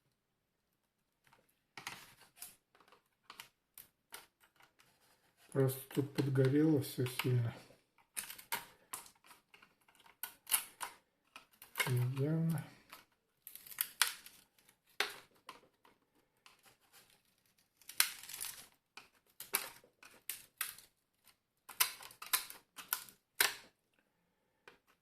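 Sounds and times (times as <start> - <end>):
plastic and metal parts clicking: 1.2 - 24.0.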